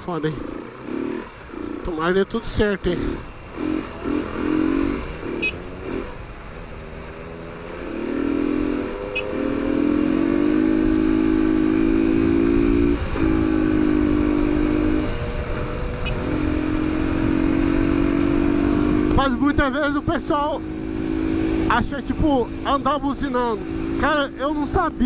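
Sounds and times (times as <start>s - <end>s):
motorcycle engine: 0.0s - 25.0s
wind and road noise: 0.0s - 25.0s.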